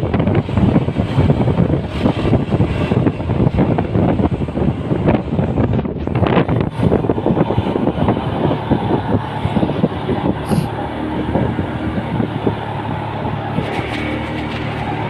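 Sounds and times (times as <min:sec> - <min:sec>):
low engine hum: 0:00.0 - 0:15.0
uneven rushing noise: 0:00.0 - 0:15.0.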